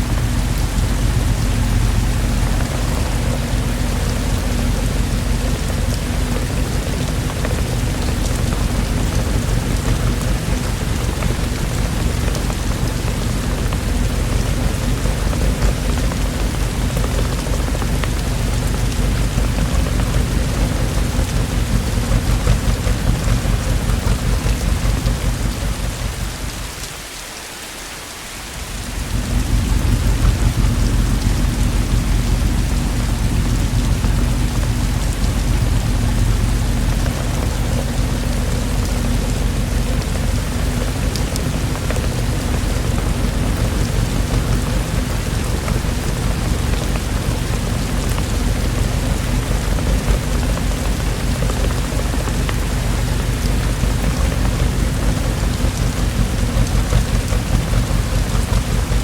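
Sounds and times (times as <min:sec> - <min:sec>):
thunder rumbling: 0:00.0 - 0:26.9, 0:28.6 - 0:59.0
heavy rainfall: 0:00.0 - 0:59.0.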